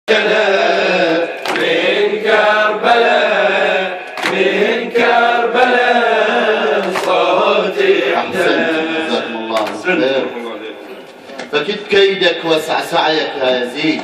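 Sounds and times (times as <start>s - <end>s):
man chanting into a microphone: 0.1s - 10.8s, 11.5s - 14.0s.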